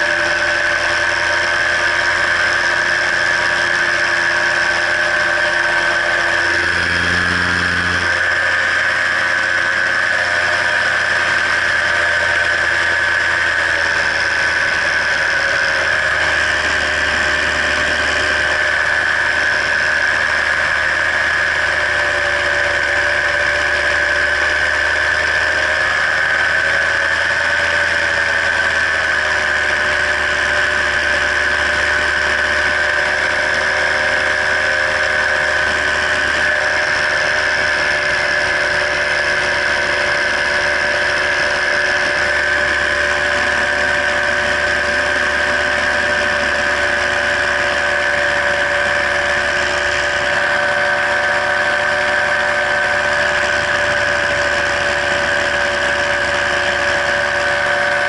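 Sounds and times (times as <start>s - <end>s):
paramotor engine droning: 0.0s - 58.0s.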